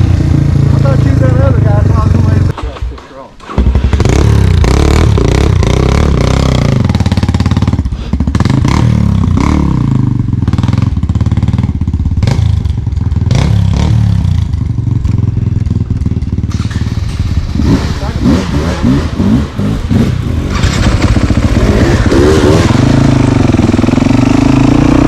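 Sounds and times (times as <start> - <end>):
dirt bike engine revving: 0.0 - 2.8, 3.4 - 25.0.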